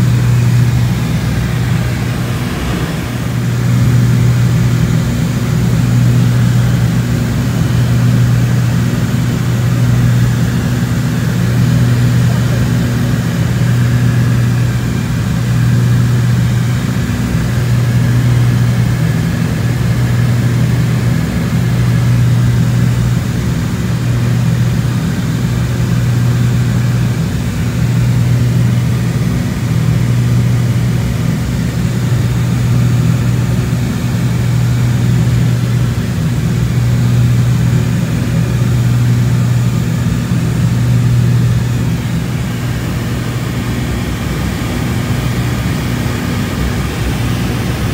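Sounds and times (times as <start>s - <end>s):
airplane cabin engine drone: 0.0s - 47.9s.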